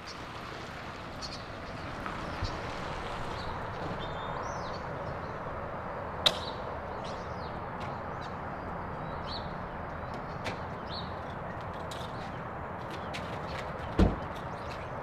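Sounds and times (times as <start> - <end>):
small birds chirping: 0.0 - 15.0
steady outdoor hiss: 0.0 - 15.0.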